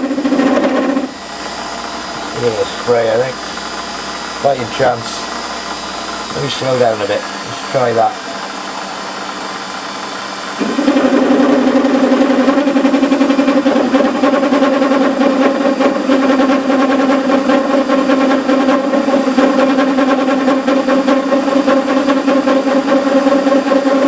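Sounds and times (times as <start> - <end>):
lathe running: 0.0 - 24.0.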